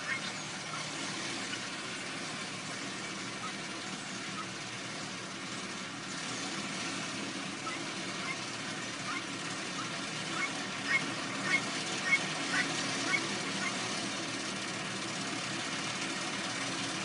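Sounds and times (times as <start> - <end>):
distant tractor engine: 0.0 - 17.0.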